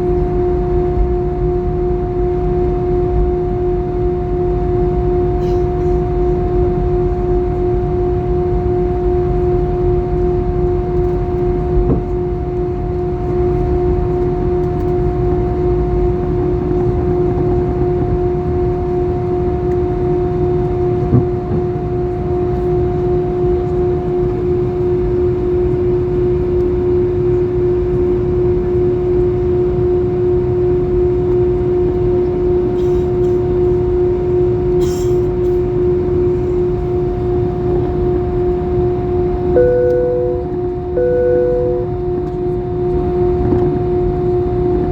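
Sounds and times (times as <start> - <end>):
jet engine drone in cabin: 0.0 - 42.4.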